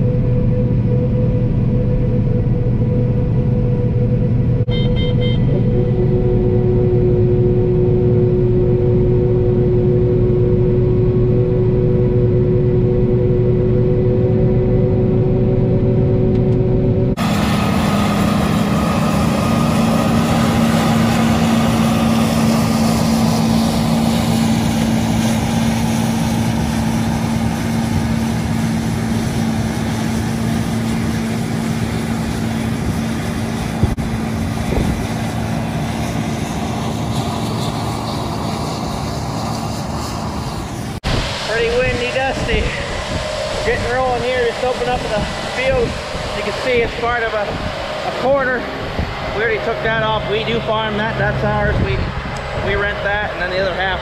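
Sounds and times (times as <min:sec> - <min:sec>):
combine harvester running: 0:00.0 - 0:54.0
tractor engine running: 0:00.0 - 0:54.0.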